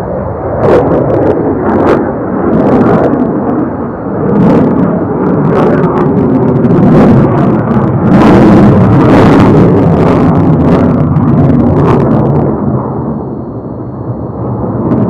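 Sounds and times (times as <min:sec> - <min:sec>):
fighter jet engine rumble crackling: 0:00.0 - 0:15.0.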